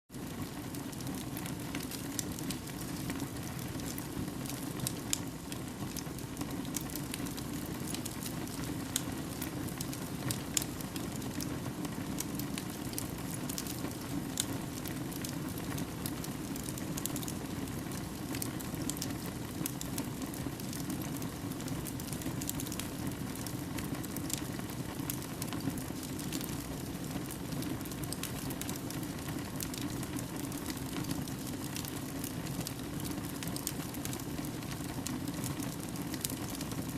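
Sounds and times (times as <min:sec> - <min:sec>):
fire burning with crackles: 0:00.1 - 0:36.9.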